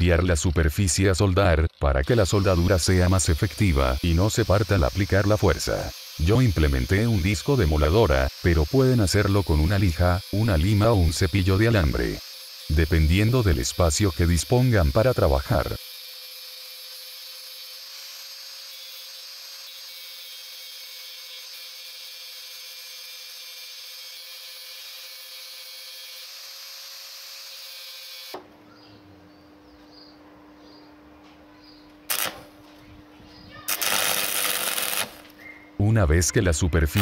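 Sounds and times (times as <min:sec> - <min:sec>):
angle grinder grinding metal: 0:00.0 - 0:28.4, 0:32.0 - 0:32.6, 0:33.6 - 0:35.5, 0:36.3 - 0:37.0.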